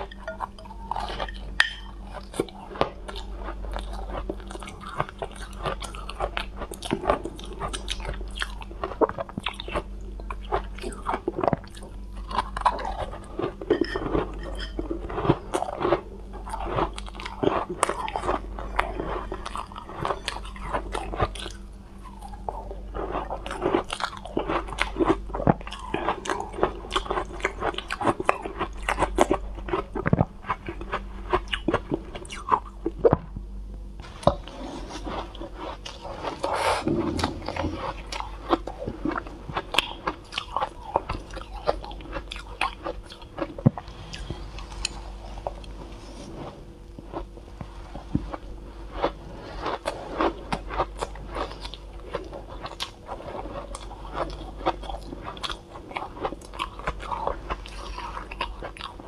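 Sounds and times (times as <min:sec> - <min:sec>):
chewing crisp crunches: 0:00.0 - 0:59.0.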